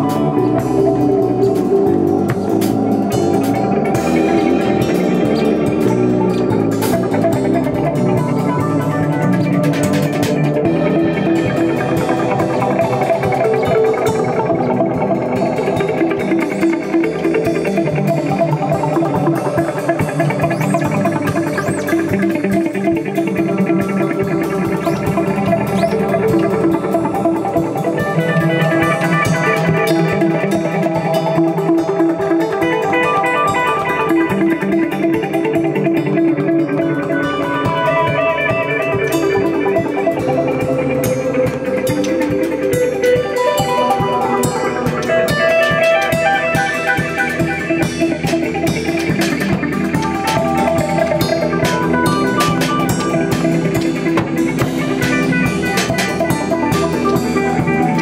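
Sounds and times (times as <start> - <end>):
bass guitar: 0.0 - 58.0
guitar plucking: 0.0 - 58.0.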